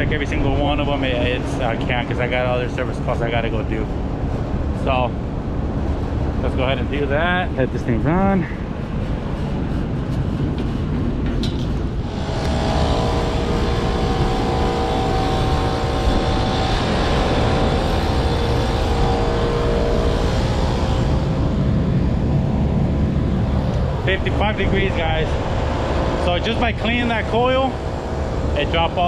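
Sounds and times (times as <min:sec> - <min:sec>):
air conditioner fan rushing: 0:00.0 - 0:29.0
multi-tone hum: 0:00.0 - 0:29.0.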